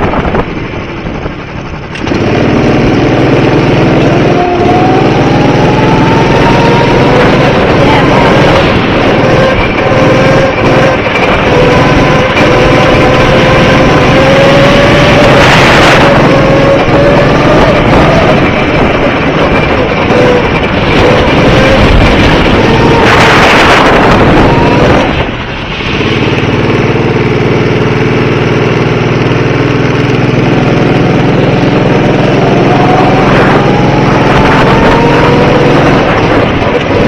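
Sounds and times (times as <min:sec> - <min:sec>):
go-kart engine accelerating: 0:00.0 - 0:37.0.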